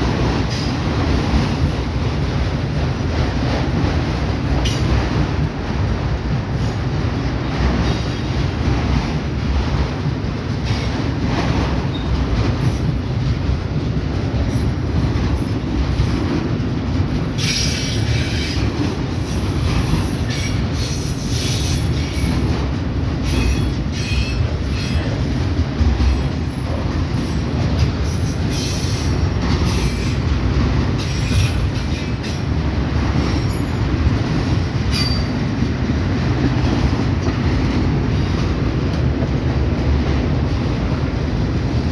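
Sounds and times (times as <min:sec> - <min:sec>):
freight train cars rumbling past: 0:00.0 - 0:41.9.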